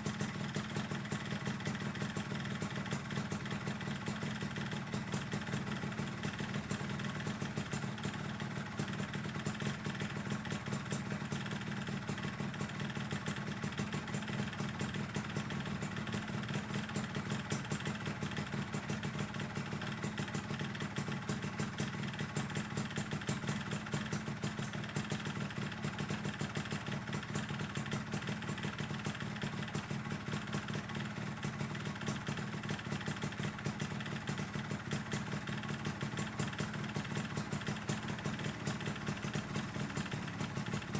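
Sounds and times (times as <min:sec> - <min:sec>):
two-stroke engine idling: 0:00.0 - 0:40.9.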